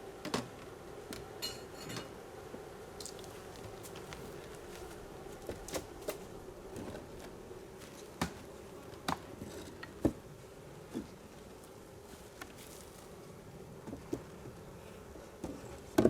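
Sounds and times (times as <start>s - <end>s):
honeybees buzzing: 2.1s - 15.4s.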